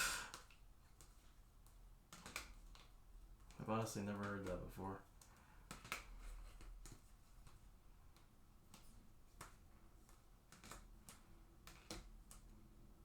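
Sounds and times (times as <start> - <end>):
trading cards clicking and tapping: 2.1 - 12.5.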